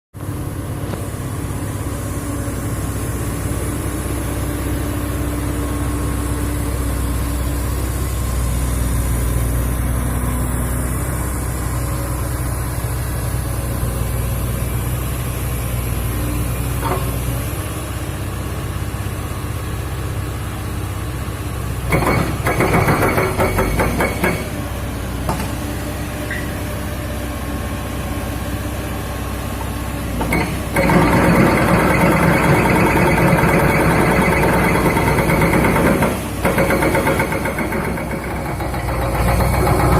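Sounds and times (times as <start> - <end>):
excavator diesel engine running: 0.2 - 39.9.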